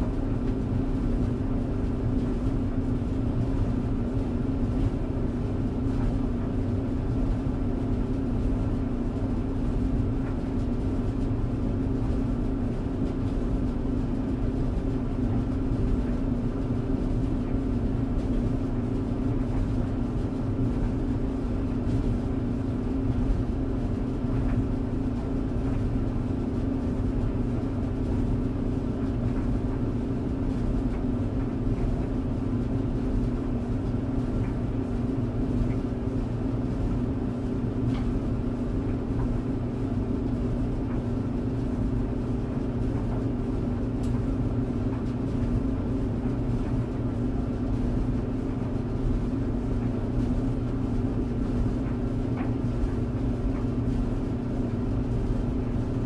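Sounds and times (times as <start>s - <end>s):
tumble dryer running: 0.0s - 56.0s.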